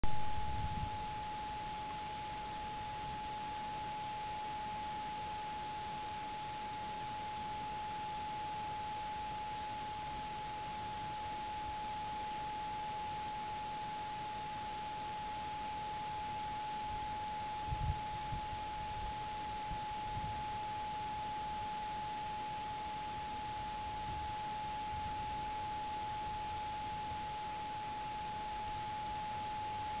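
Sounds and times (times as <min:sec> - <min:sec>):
steady pure tone: 0:00.0 - 0:30.0.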